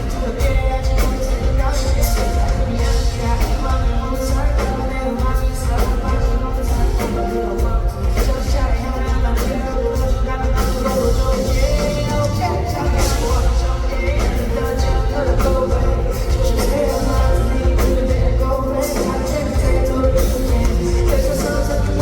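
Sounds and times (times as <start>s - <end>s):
loud amplified music with heavy bass: 0.0s - 22.0s
person singing: 0.0s - 22.0s.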